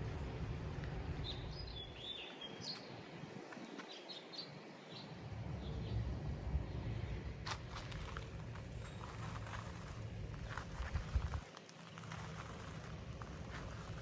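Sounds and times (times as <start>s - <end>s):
low outdoor rumble: 0.0s - 3.4s, 4.9s - 14.0s
small birds chirping: 1.1s - 6.0s, 7.6s - 14.0s.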